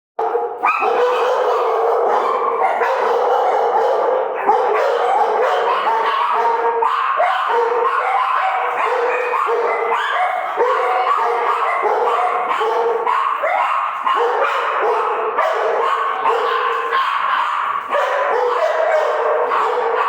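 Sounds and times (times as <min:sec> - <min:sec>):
dogs barking and howling: 0:00.2 - 0:20.0.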